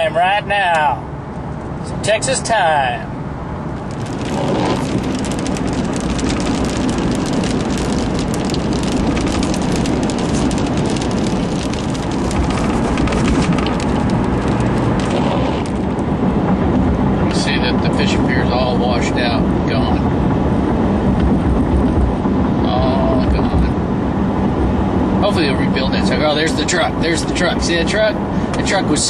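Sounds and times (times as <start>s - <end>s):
car driving at speed from inside: 3.2s - 29.0s.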